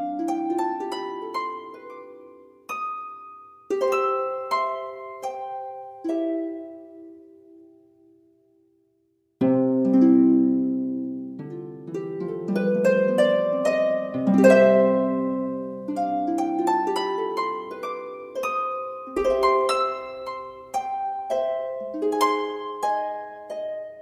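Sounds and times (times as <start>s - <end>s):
plucked harp melody: 0.0s - 8.1s, 9.4s - 24.0s.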